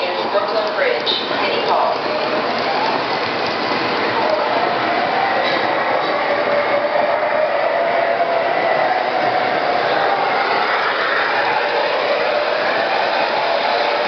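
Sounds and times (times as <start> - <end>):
model trains running on track: 0.0 - 14.0.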